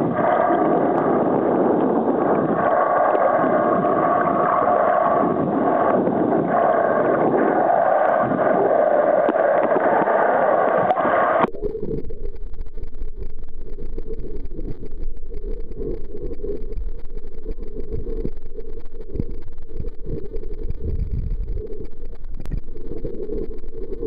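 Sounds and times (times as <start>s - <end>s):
faint steady whines: 0.0s - 24.0s
low underwater rumble: 0.0s - 24.0s
muffled underwater noise: 0.0s - 24.0s.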